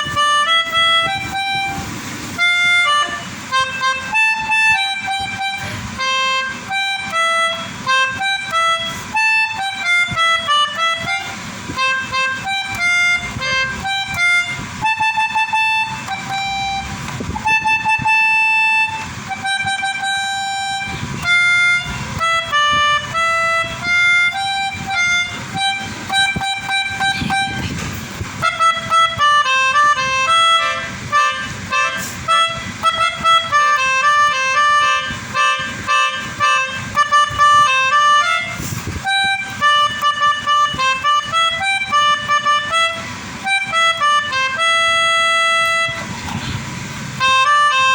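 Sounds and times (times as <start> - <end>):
melodica playing quick melody: 0.0 - 47.9.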